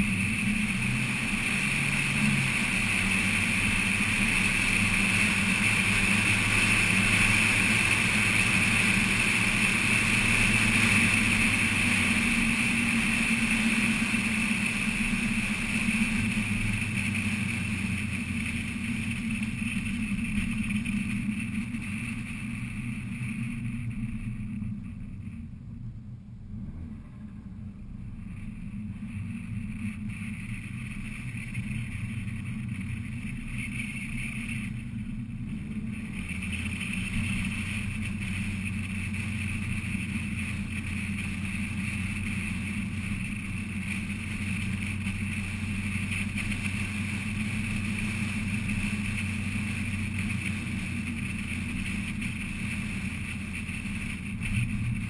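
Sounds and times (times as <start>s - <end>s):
car engine running: 0.0s - 55.0s
tyre and road noise: 0.0s - 55.0s.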